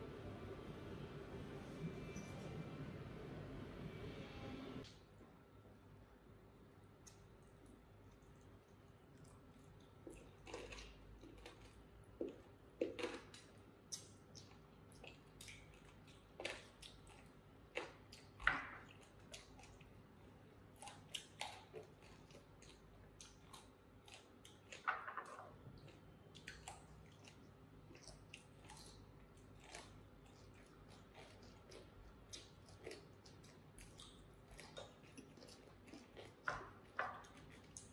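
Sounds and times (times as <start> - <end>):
chewing: 7.0 - 37.9.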